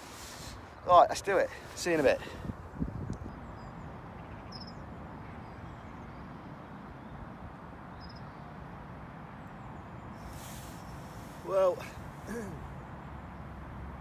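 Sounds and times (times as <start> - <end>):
low rush of outdoor noise: 0.0 - 14.0.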